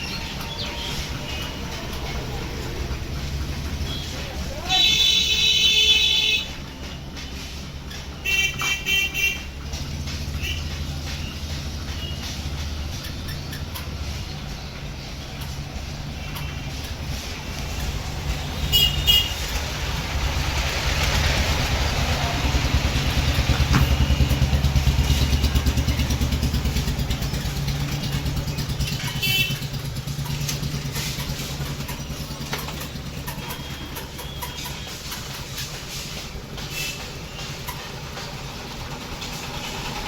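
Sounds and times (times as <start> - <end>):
small petrol engine running: 0.0 - 40.0.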